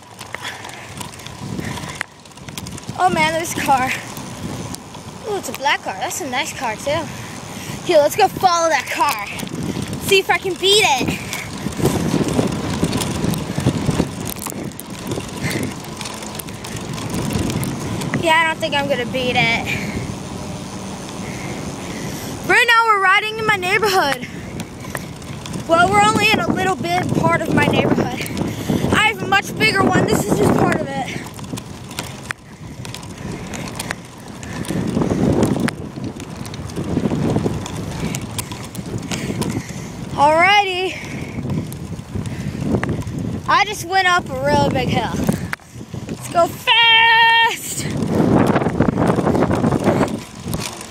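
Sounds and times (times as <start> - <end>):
bicycle rattling and clicking: 0.0 - 50.9
wind buffeting microphone: 0.0 - 50.9.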